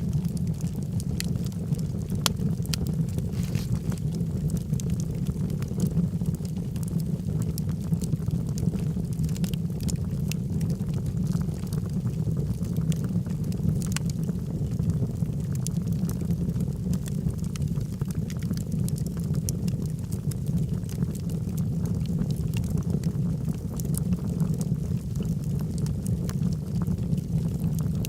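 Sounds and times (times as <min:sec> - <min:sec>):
fire crackling and popping: 0:00.0 - 0:28.0
fire flames rumbling: 0:00.0 - 0:28.0.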